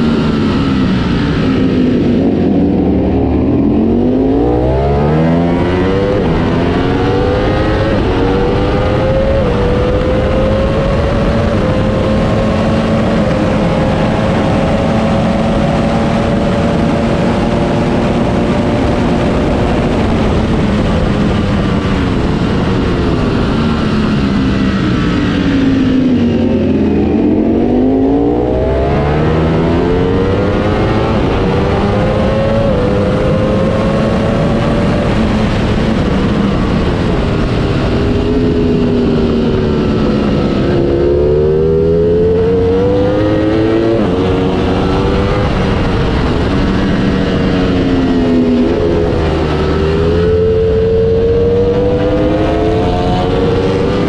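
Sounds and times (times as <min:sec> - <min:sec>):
motorcycle engine at racing speed: 0:00.0 - 0:54.0.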